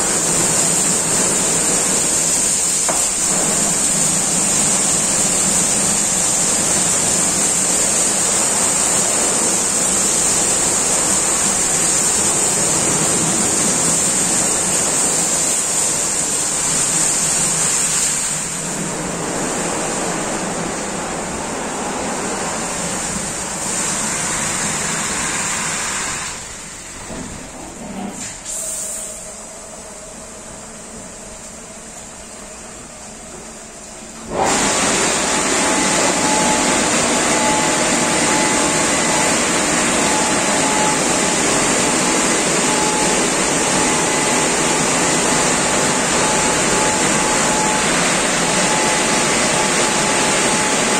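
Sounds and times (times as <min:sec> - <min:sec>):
car wash brushes and water jets: 0:00.0 - 0:50.9.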